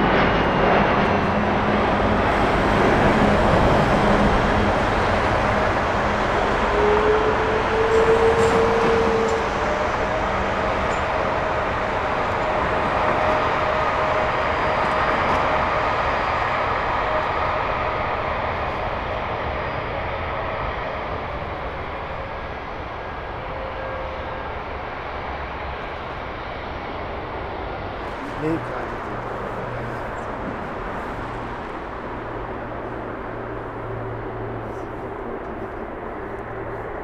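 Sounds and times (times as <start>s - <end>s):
jet engines rushing with whine: 0.0s - 37.0s.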